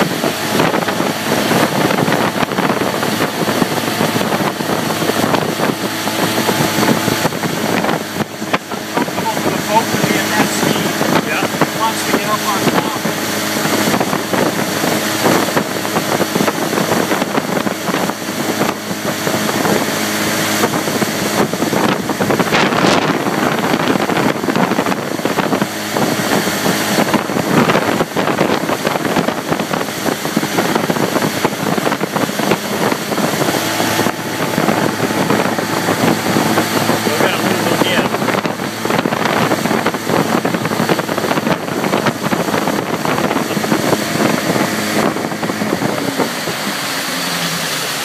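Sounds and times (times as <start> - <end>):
motorboat engine running: 0.0 - 48.0
wind noise on microphone: 0.0 - 48.0.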